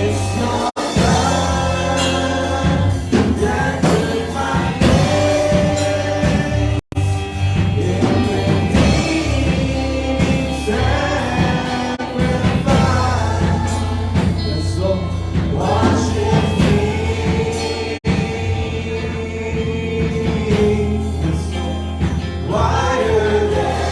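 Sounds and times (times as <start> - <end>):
person singing: 0.0 - 23.9
worship band playing: 0.0 - 23.9.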